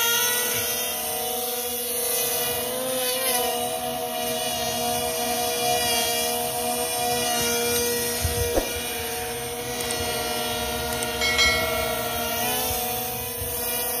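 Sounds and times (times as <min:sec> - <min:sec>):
electric motors and propellers whining: 0:00.0 - 0:14.0.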